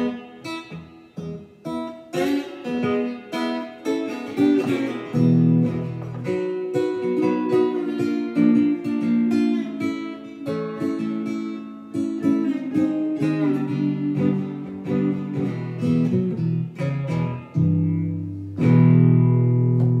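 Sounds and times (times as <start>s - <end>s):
slide blues guitar: 0.0s - 20.0s.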